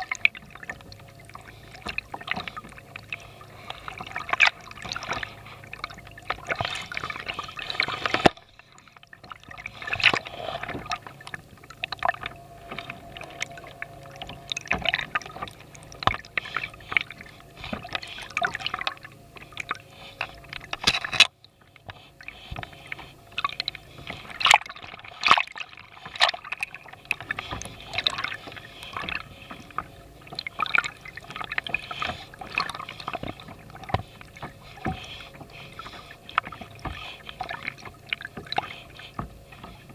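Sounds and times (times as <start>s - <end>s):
water sloshing against hull: 0.0s - 39.9s.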